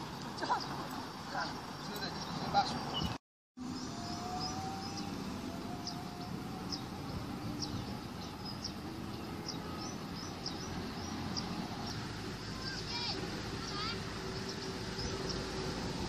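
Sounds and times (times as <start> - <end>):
open-air background noise: 0.0 - 16.0
small birds chirping: 0.0 - 16.0.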